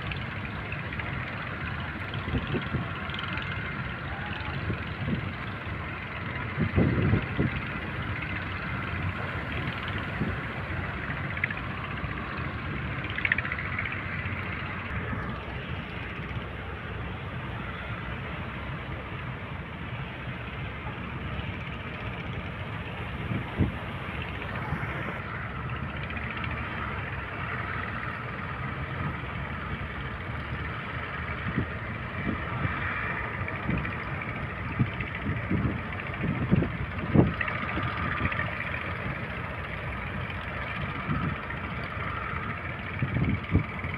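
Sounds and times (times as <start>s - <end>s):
sea noise: 0.0s - 43.9s
small boat engine running: 0.0s - 43.9s
wind: 0.0s - 43.9s.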